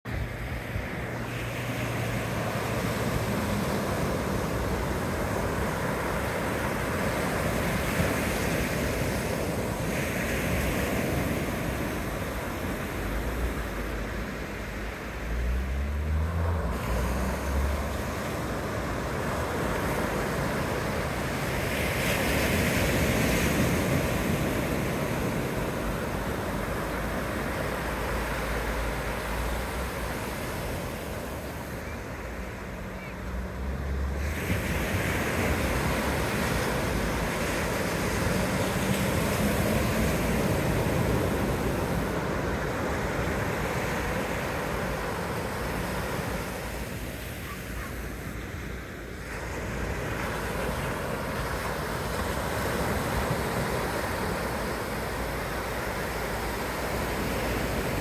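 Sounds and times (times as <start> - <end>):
waves breaking on beach: 0.1 - 58.0.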